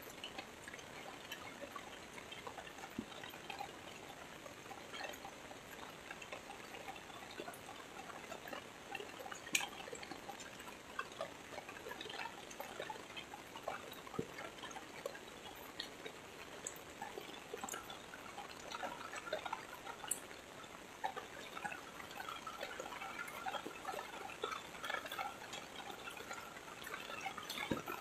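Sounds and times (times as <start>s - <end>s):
raindrop ticks: 0.0s - 28.0s.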